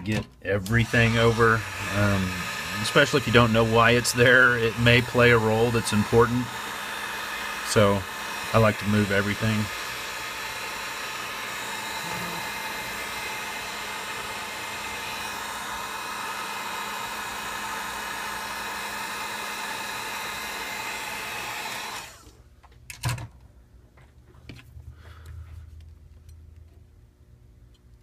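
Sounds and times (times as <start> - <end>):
hot-air tool fan whining: 0.0 - 28.0.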